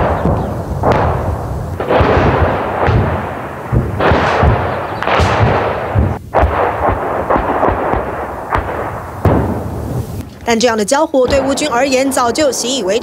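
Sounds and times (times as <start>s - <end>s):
artillery shells exploding: 0.0s - 13.0s.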